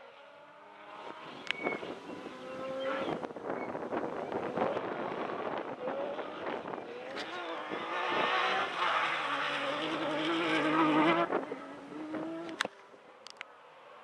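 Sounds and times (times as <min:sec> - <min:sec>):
rally car engine passing: 0:00.0 - 0:14.0.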